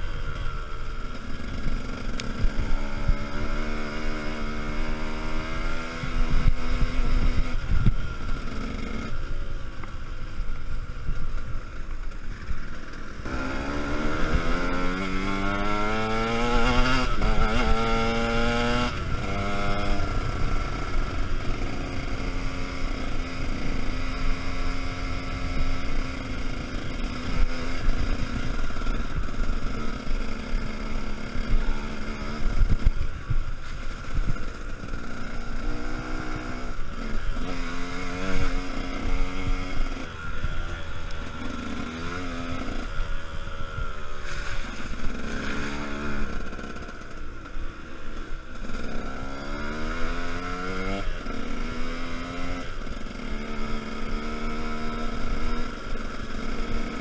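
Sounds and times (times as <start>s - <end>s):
dirt bike engine accelerating: 0.0s - 57.0s.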